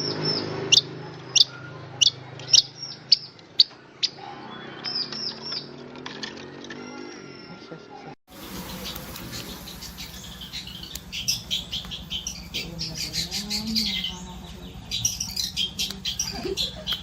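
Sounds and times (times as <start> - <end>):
bird singing chirps and trills: 0.0 - 5.9, 8.3 - 17.0.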